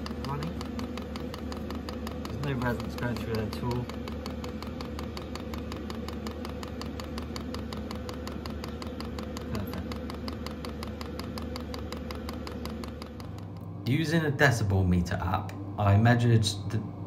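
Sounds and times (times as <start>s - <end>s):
fuel pump ticking: 0.0s - 13.7s
heater low hum: 0.0s - 17.0s.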